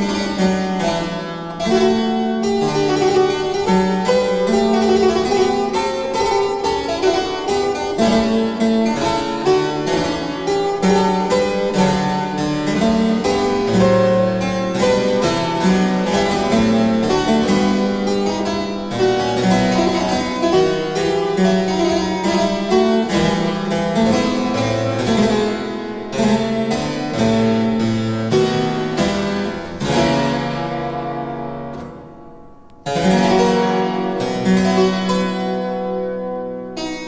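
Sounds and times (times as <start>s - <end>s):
harpsichord music: 0.0s - 37.0s.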